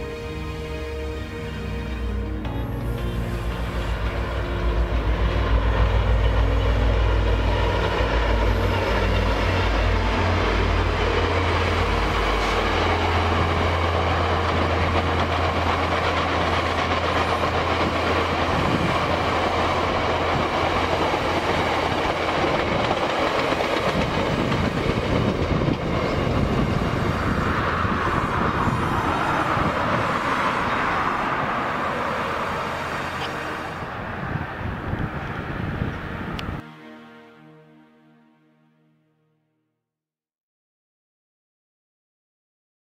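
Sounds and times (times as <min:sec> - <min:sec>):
diesel locomotive engine drone: 0:00.0 - 0:38.9
train wheels rolling on rails: 0:00.1 - 0:36.6.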